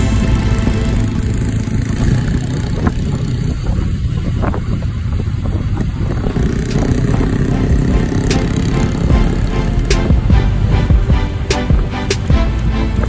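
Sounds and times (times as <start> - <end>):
motorcycle engine running: 0.0 - 12.5
wind rushing across microphone: 0.0 - 13.0.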